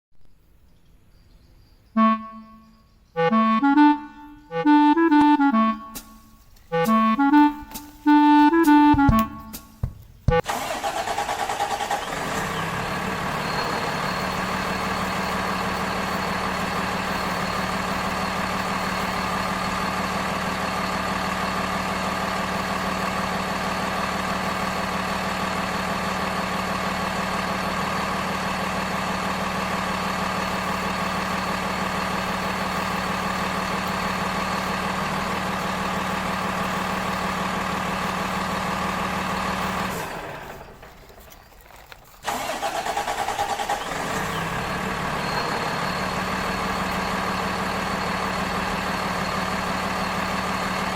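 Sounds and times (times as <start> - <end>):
vehicle engine idling: 3.1 - 50.9.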